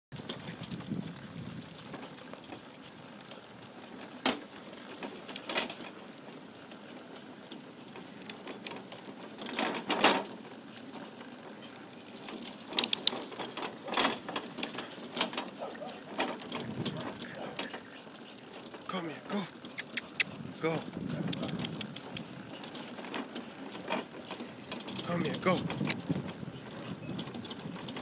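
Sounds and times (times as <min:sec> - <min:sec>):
go-kart rattling: 0:00.1 - 0:28.0.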